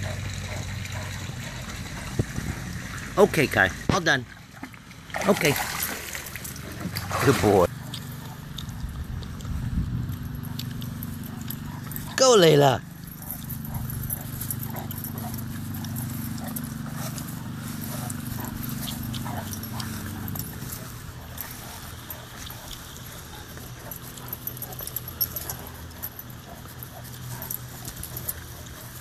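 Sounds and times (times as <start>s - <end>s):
dogs play-fighting: 0.0s - 3.1s, 6.4s - 29.0s.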